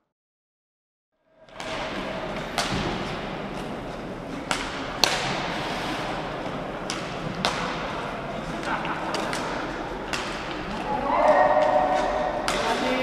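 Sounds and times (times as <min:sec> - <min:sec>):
skate wheels rumbling on floor: 0:01.5 - 0:13.0.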